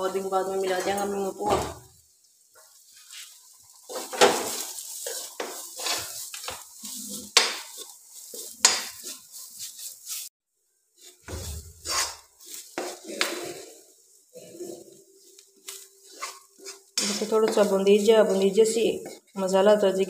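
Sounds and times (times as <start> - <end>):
spices frying in oil: 0.0 - 20.0
metal spoon scraping a pan: 2.8 - 10.3, 11.0 - 19.6.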